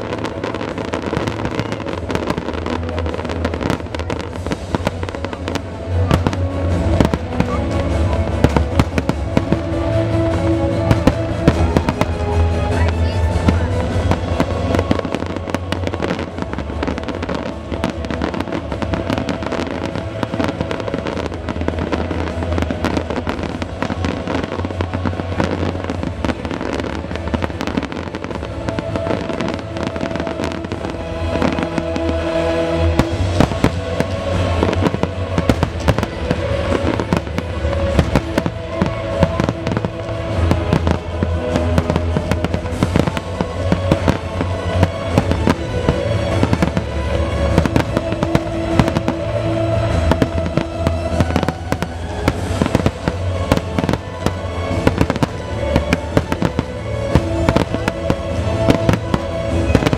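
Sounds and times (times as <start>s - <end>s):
fireworks bangs and crackles: 0.0s - 59.9s
music: 0.0s - 59.9s.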